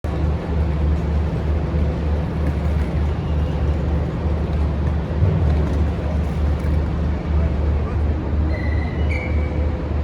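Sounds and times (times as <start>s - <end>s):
coach engine running: 0.0s - 8.4s.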